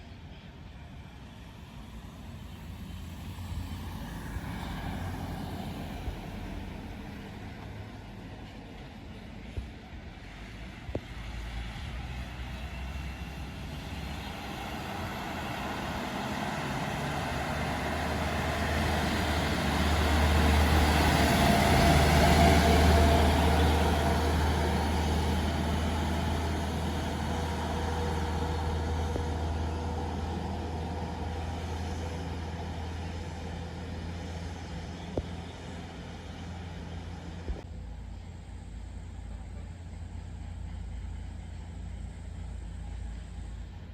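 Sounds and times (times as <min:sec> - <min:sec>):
heavy truck engine running: 0:02.5 - 0:43.9.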